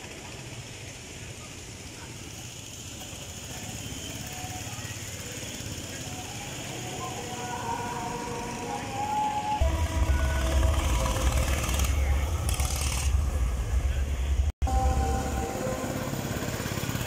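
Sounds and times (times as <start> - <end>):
distant go-kart engines: 0.0 - 17.0.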